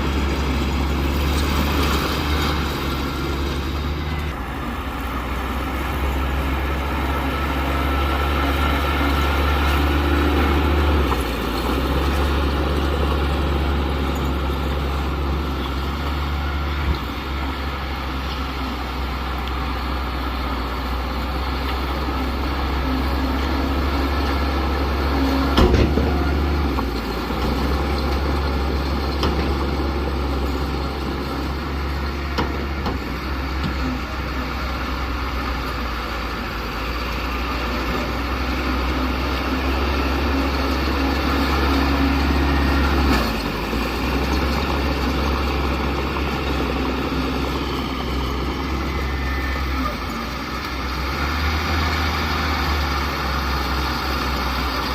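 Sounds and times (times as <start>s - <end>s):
heavy diesel engine rumbling: 0.0s - 54.9s.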